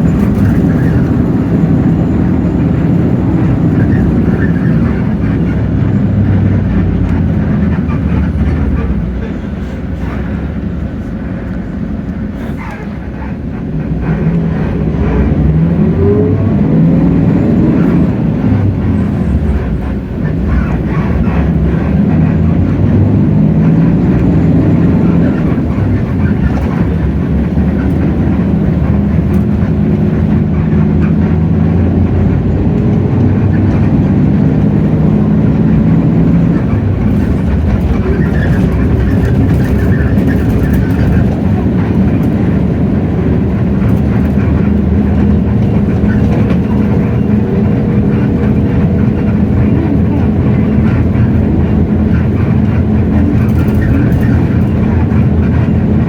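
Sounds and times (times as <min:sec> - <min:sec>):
bus diesel engine under load: 0:00.0 - 0:56.0
road and cabin noise: 0:00.0 - 0:56.0.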